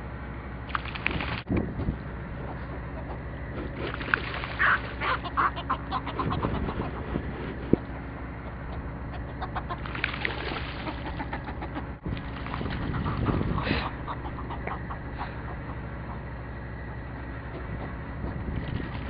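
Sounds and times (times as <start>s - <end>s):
steady low hum: 0.0s - 19.0s
seabirds calling: 0.6s - 19.0s.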